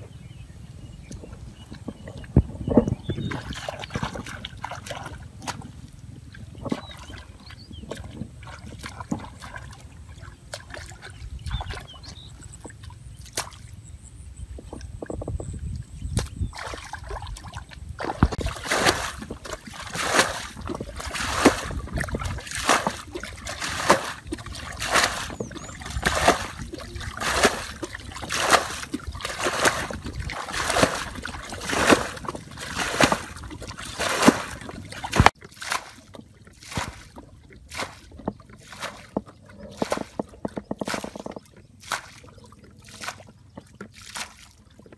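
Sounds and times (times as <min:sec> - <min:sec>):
bucket splashing muddy water: 0:01.2 - 0:13.9, 0:14.7 - 0:44.9.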